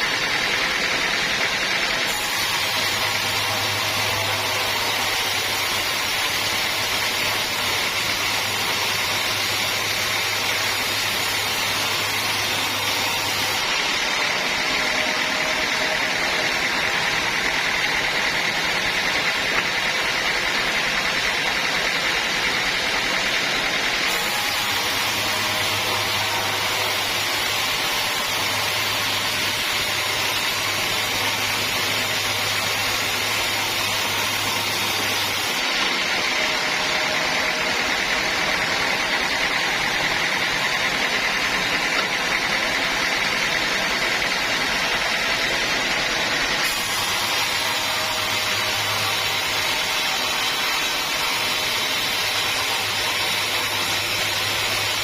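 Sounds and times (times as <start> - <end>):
sawmill saw cutting logs: 0.0 - 55.0.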